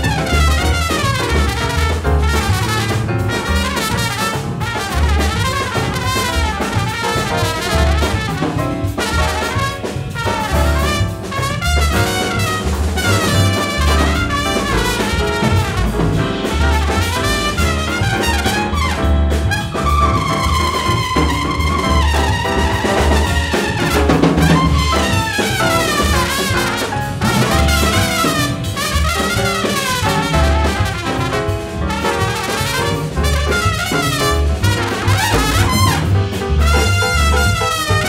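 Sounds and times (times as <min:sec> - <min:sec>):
double bass: 0:00.0 - 0:38.0
drums: 0:00.0 - 0:38.0
jazz trumpet solo: 0:00.0 - 0:38.0.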